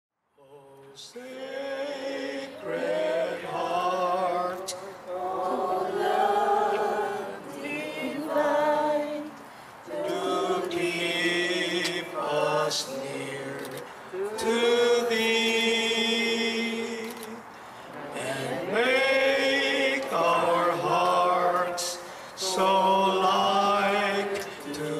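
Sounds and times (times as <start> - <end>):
unaccompanied voices chanting: 0.5 - 24.9.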